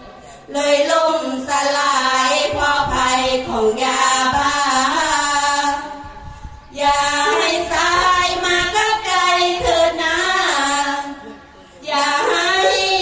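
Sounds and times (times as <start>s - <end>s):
women chanting in unison: 0.5s - 13.0s.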